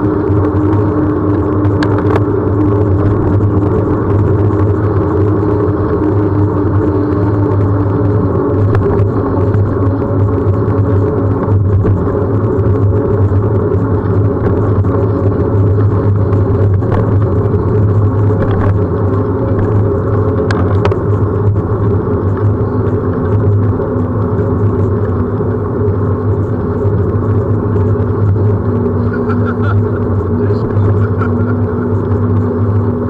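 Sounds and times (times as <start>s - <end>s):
bicycle tyre noise on asphalt: 0.0s - 33.0s
low hum: 0.0s - 33.0s
wind on microphone: 0.0s - 33.0s.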